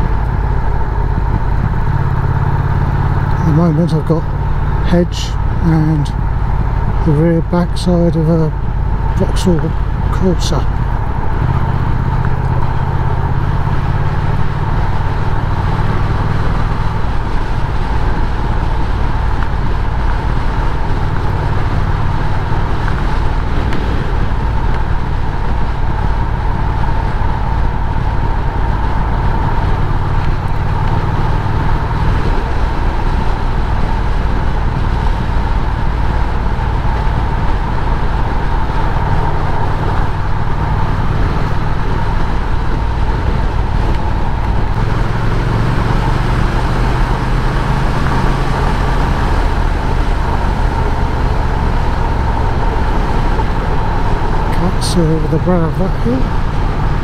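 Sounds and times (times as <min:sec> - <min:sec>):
motorcycle engine running: 0:00.0 - 0:57.0
road noise: 0:00.0 - 0:57.0
wind noise: 0:00.0 - 0:57.0.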